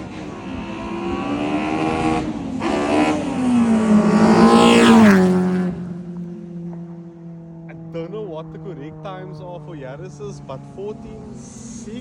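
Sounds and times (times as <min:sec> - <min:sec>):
car engine revving hard: 0:00.0 - 0:12.0
car passing by: 0:00.0 - 0:12.0.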